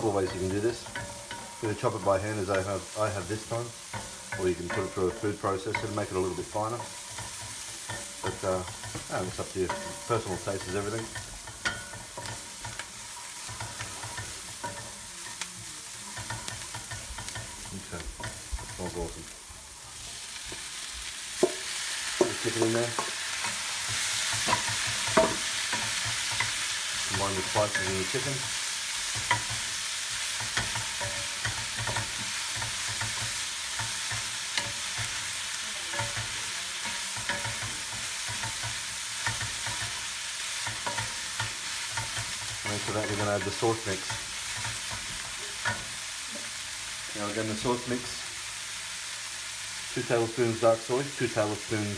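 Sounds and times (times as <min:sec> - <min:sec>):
utensil scraping a pan: 0:00.0 - 0:46.0
food sizzling in hot oil: 0:00.0 - 0:51.9.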